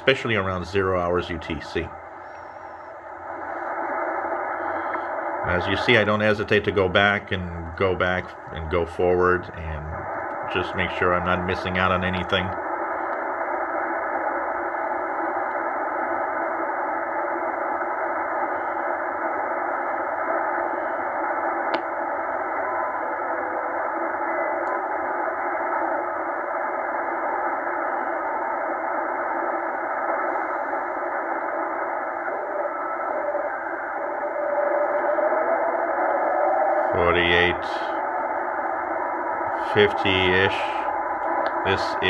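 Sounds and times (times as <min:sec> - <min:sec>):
radio static hissing: 0:00.0 - 0:42.0.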